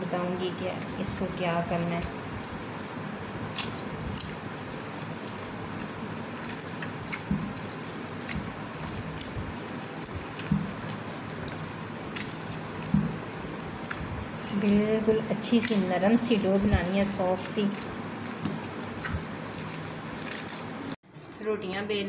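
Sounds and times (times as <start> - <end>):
hand kneading wet dough: 0.0 - 21.4.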